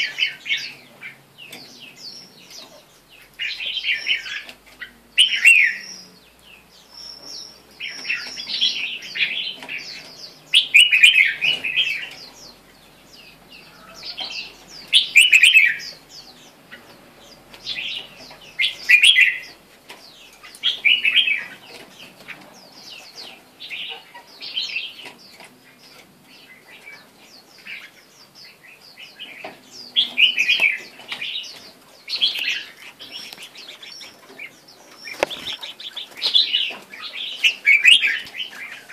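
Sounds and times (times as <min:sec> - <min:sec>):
bird singing warbled phrases: 0:00.0 - 0:38.9.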